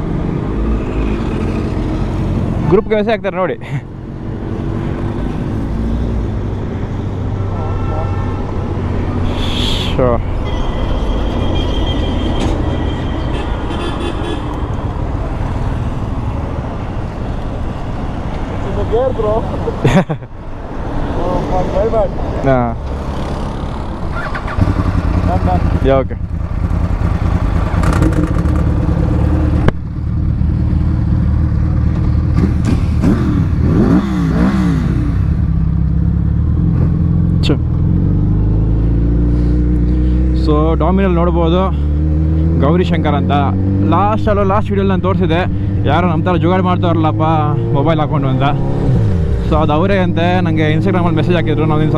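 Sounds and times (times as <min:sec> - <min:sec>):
road traffic passing: 0:00.0 - 0:51.9.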